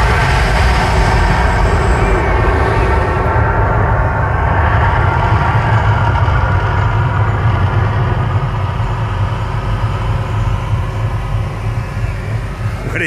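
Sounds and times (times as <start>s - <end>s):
deep steady rumble: 0.0s - 13.0s.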